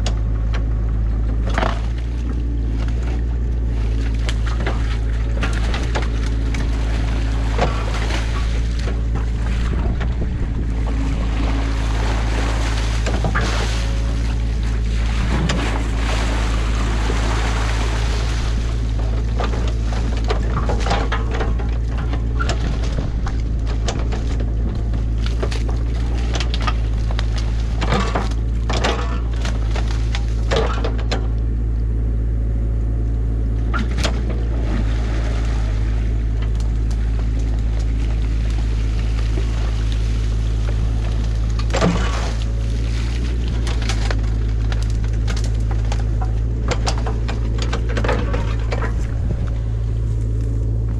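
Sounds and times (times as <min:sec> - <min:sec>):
branches cracking and snapping: 0:00.0 - 0:31.6, 0:33.6 - 0:50.9
excavator engine running: 0:00.0 - 0:50.9.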